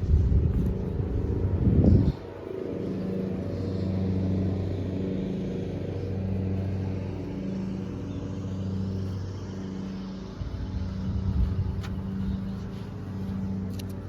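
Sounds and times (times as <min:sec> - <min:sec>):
small engine humming: 0:00.0 - 0:14.0.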